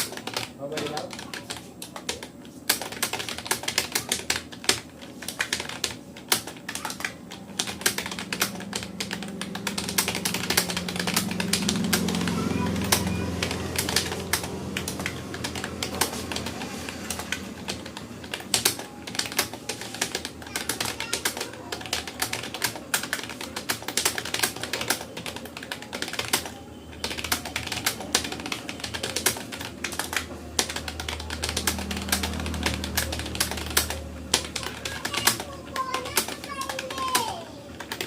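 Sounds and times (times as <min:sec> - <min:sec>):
fast keyboard typing: 0:00.0 - 0:38.0.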